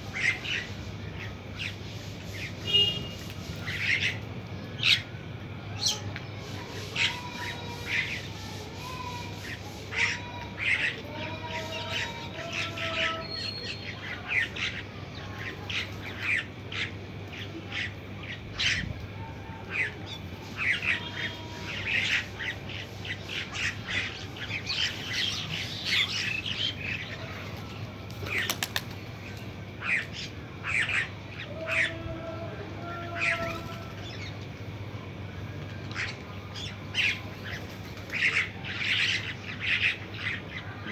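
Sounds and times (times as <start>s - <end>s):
birds chirping and squawking: 0.0s - 34.7s, 35.8s - 40.9s.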